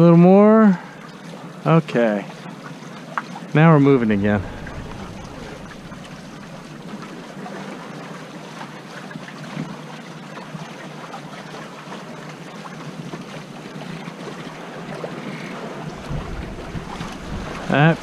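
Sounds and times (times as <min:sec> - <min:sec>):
water rushing along boat hulls: 0:00.0 - 0:18.0.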